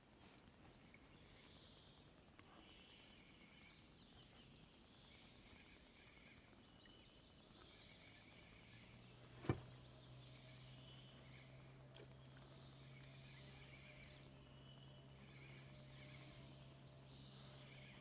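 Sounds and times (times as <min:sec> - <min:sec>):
faint songbirds chirping: 0:00.0 - 0:18.0.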